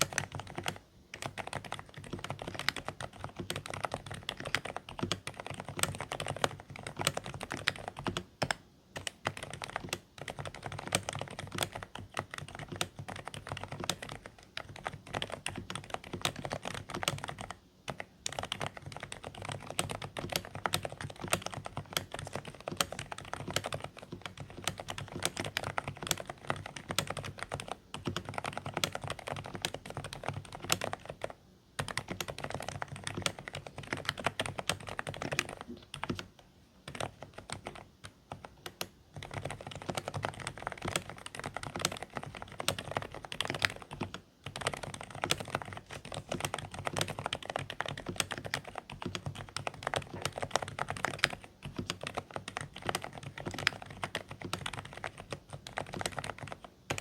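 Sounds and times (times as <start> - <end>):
soft keyboard typing: 0.0 - 57.0.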